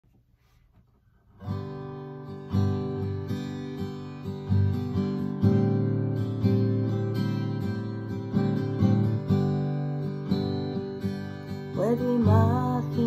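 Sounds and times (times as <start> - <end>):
acoustic guitar strumming: 1.4 - 13.0.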